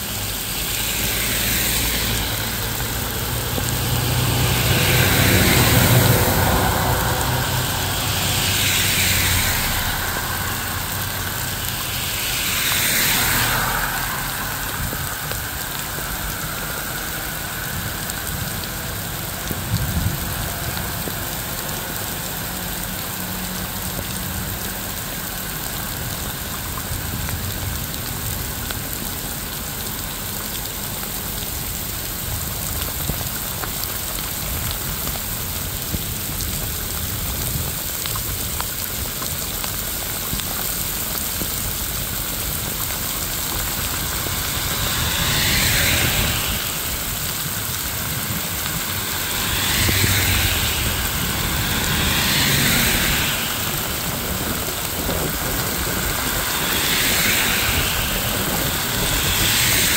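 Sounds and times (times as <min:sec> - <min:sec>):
steady rain falling: 0:00.0 - 0:59.9
vehicles swishing past on wet road: 0:00.0 - 0:59.9.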